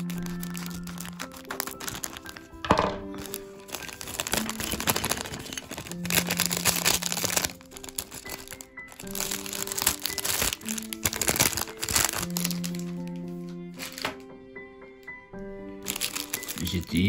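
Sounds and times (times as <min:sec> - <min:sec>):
packaging crinkling and rustling: 0:00.0 - 0:14.2, 0:15.8 - 0:17.0
background music: 0:00.0 - 0:17.0.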